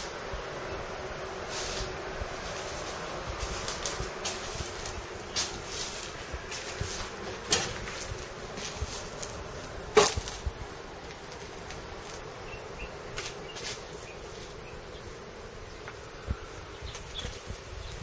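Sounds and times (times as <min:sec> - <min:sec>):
insect buzzing: 0:00.0 - 0:18.0.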